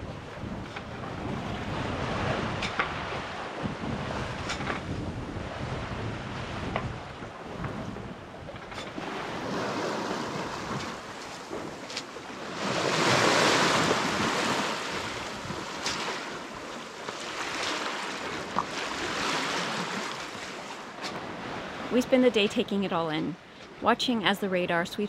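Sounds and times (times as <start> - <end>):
wind on microphone: 0.0 - 22.2
water rushing along boat hull: 0.0 - 25.0.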